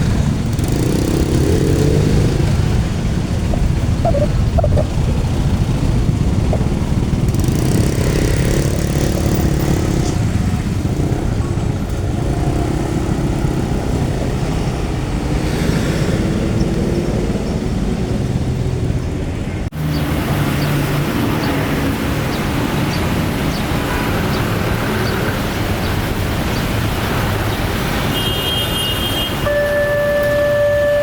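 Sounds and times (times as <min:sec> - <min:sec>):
motor vehicles rumbling: 0:00.0 - 0:31.0.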